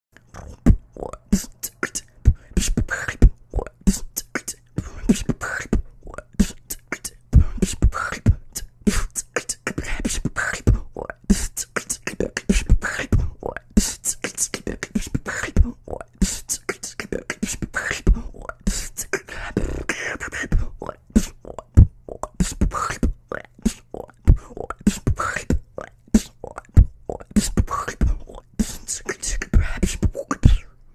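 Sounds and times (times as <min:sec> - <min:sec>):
beatboxing: 0:00.2 - 0:30.8.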